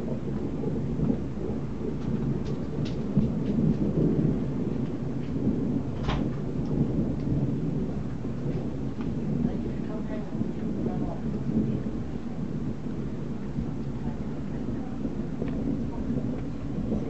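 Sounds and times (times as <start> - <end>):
rain falling: 0.0 - 17.0
raindrops ticking: 0.0 - 17.0
thunder rumbling: 0.0 - 17.0.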